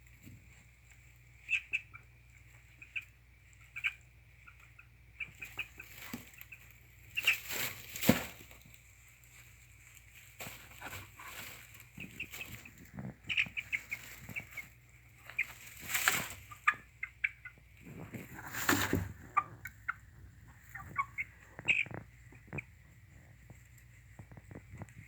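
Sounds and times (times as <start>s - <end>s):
chicken clucking: 0.0s - 25.0s.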